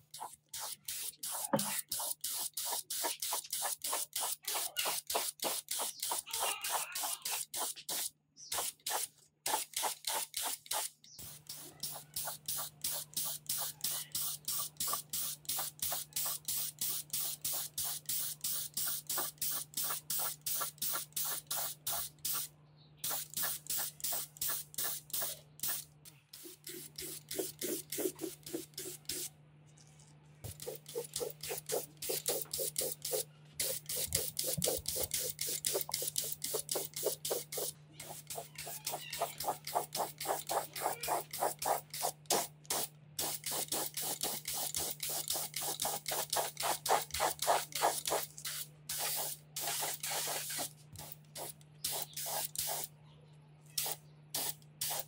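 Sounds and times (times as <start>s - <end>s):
paint spray gun hissing bursts: 0.2s - 6.2s, 8.6s - 22.4s, 23.0s - 29.2s, 30.6s - 52.9s, 53.8s - 55.0s.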